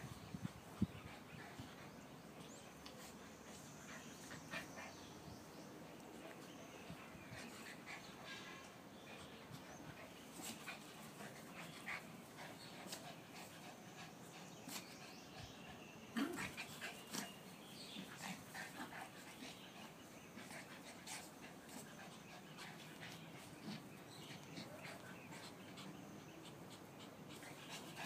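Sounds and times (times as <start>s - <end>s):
dogs panting: 0.2s - 28.0s.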